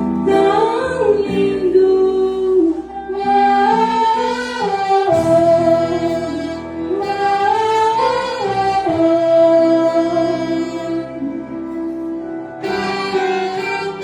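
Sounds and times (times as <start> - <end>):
small orchestra playing slow song: 0.0 - 14.0.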